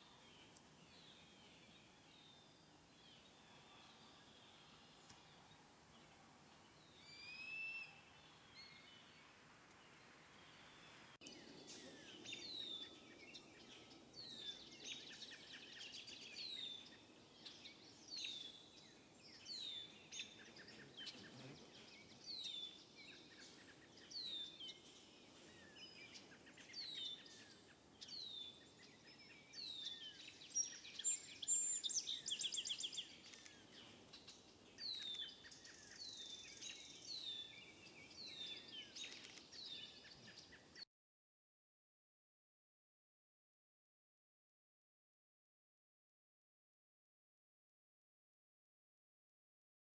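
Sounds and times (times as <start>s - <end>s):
small birds chirping: 0.0s - 40.8s.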